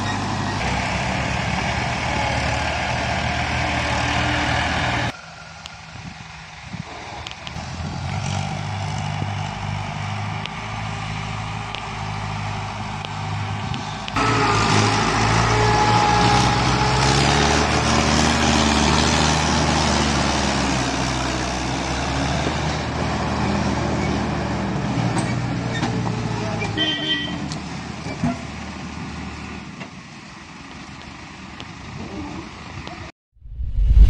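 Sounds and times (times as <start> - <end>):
tractor diesel engines under load: 0.0 - 33.1.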